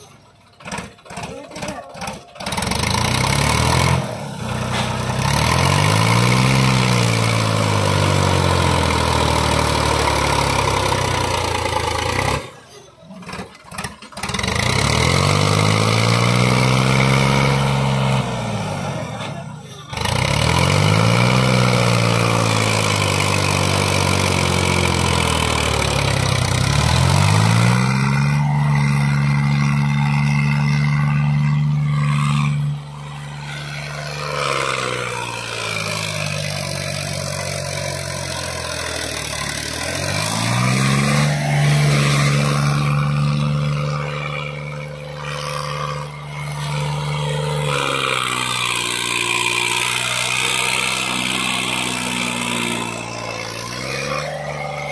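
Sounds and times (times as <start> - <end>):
tractor diesel engine revving: 0.0 - 54.9.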